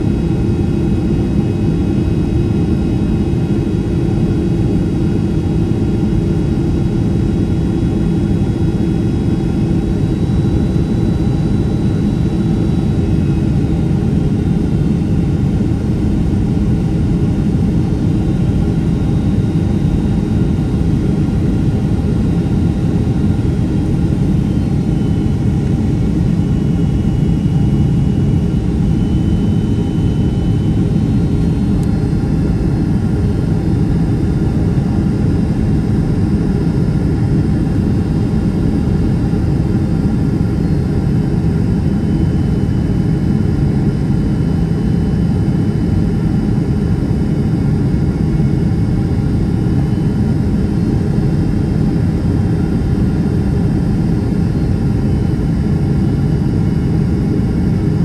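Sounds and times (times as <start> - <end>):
jet engine roar inside cabin: 0.0 - 58.0.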